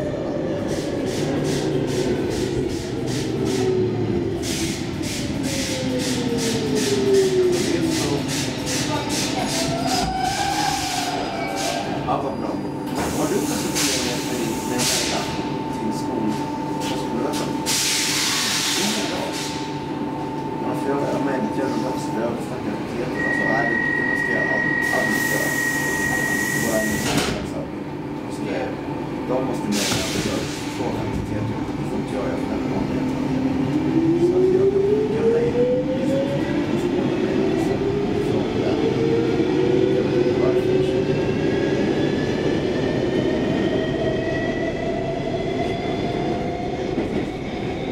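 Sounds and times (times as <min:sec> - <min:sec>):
train running noise: 0:00.0 - 0:47.9.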